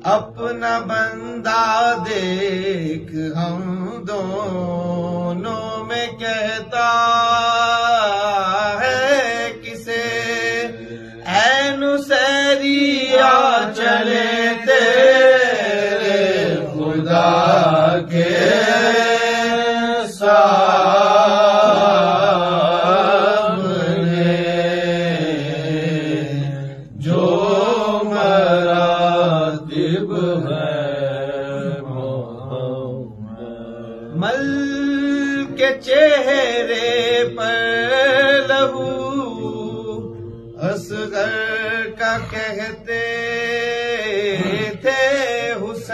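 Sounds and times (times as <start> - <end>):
man chanting: 0.0 - 45.9.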